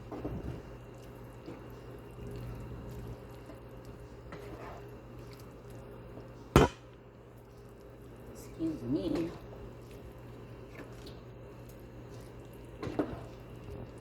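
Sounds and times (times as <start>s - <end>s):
wet stirring in a pan: 0.0s - 14.0s.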